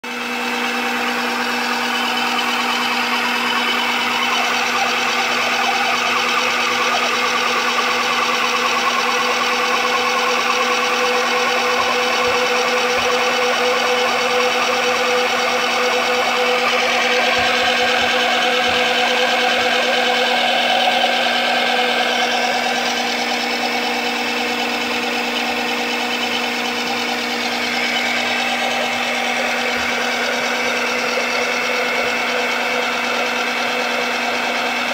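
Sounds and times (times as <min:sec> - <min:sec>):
machine hum with whine: 0:00.0 - 0:34.9.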